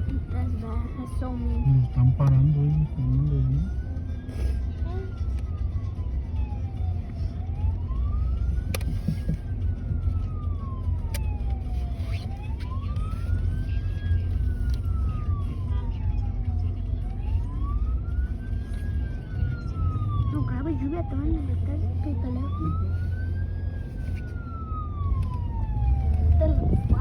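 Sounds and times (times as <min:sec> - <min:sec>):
car engine and road rumble: 0:00.0 - 0:27.0
siren wailing: 0:00.0 - 0:27.0.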